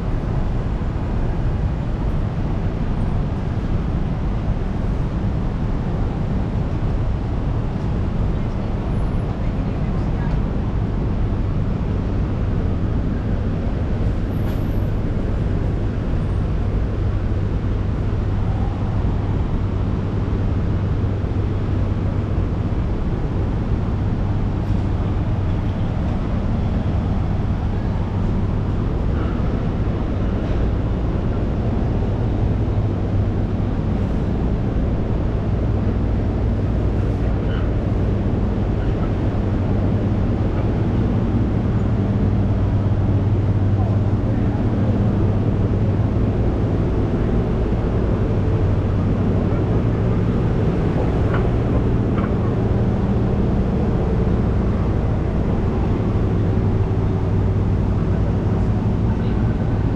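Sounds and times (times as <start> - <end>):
idling traffic hum: 0.0 - 59.9
street sound: 0.0 - 59.9.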